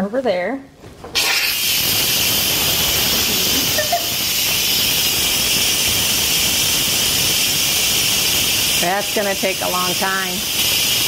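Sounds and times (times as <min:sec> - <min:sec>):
pressure cooker venting steam: 0:01.1 - 0:11.0.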